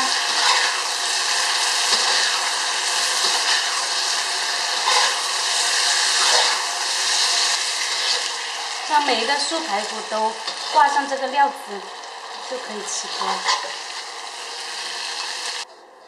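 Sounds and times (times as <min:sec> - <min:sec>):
sauce sizzling in wok: 0:00.0 - 0:15.7.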